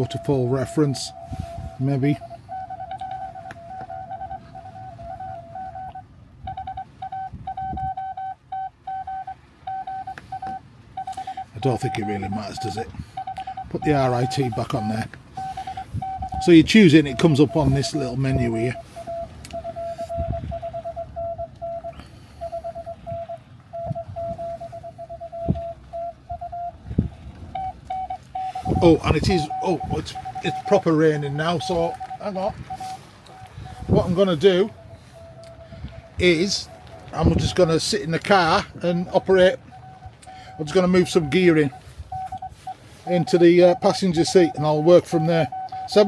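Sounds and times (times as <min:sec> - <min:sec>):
higher-pitched second signal: 0:00.0 - 0:26.8, 0:27.5 - 0:46.0
morse code tone: 0:00.0 - 0:46.0.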